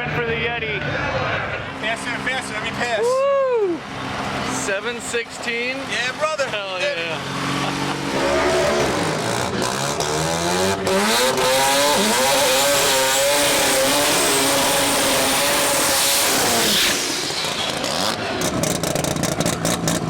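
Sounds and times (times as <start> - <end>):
engine at full throttle: 1.0 - 20.0.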